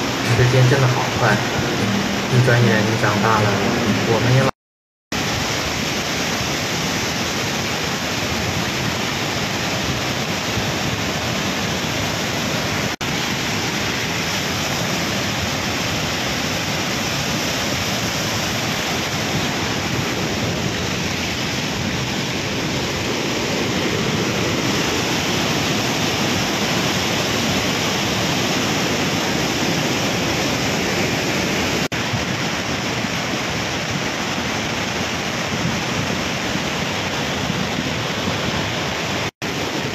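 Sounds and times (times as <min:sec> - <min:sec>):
floodwater rushing down river: 0:00.0 - 0:04.5, 0:05.2 - 0:39.9.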